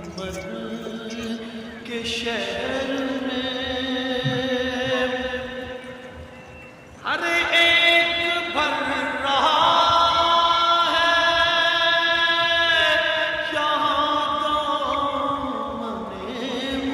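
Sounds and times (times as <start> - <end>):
chanted singing: 0.0 - 16.9.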